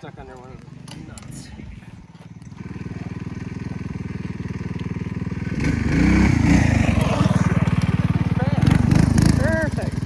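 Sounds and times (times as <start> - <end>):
mini bike engine idling and revving: 0.0 - 10.0.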